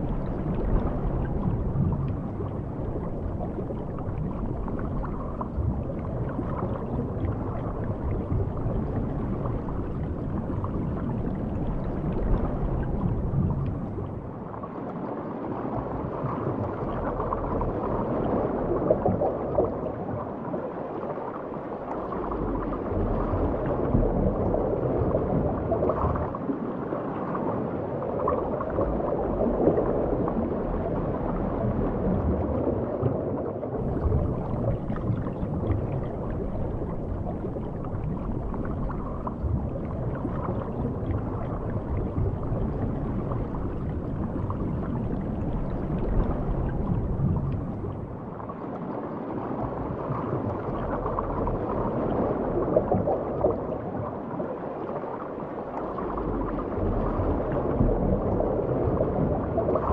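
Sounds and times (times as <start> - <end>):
underwater seawater rumble: 0.0 - 59.9.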